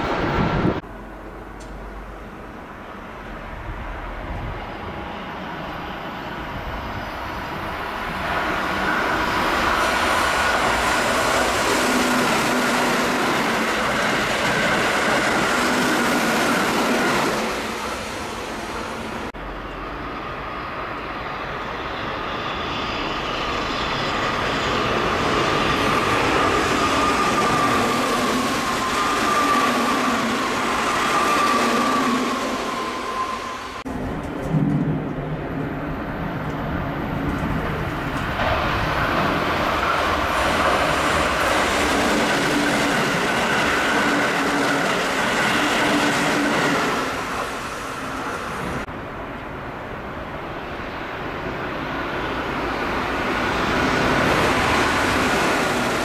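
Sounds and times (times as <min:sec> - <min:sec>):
high train whine: 0:00.0 - 0:56.0
train wheels rushing on rails: 0:00.0 - 0:56.0.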